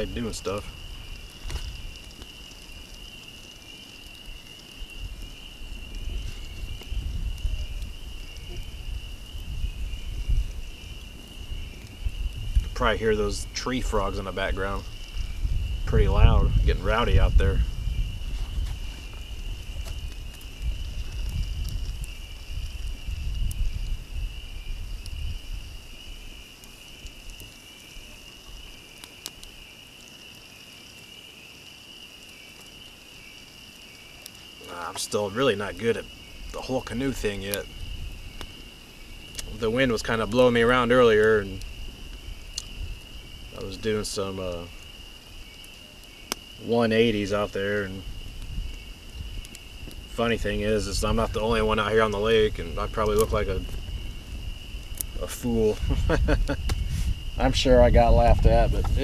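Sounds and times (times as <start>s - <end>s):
wind rumble on microphone: 0.0s - 3.2s, 4.1s - 29.6s, 36.0s - 59.0s
tree frogs trilling: 0.0s - 59.0s.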